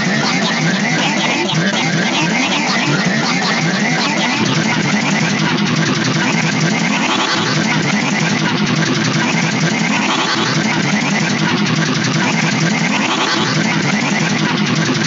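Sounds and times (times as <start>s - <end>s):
distorted cartoon audio remix: 0.0s - 15.0s.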